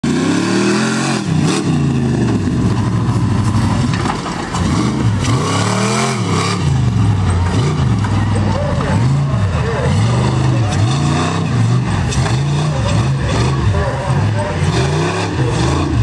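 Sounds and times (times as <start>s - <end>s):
buggy engine revving: 0.0s - 16.0s.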